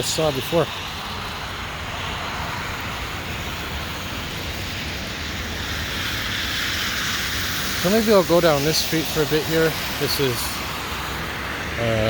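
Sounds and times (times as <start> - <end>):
low engine rumble: 0.0 - 12.0
tyres hissing through wet slush: 0.0 - 12.0.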